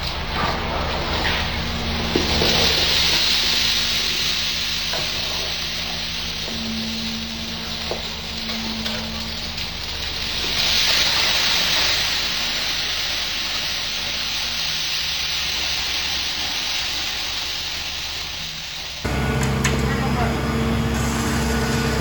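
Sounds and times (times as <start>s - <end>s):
engine humming: 0.0s - 22.0s
steady hissing: 0.0s - 22.0s.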